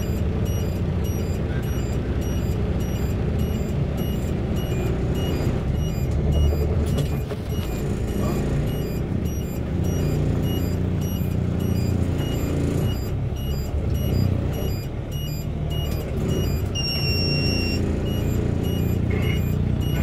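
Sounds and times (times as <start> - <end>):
diesel engine low rumble: 0.0 - 20.0
long electronic beep: 0.0 - 20.0
short electronic beeps: 0.0 - 20.0.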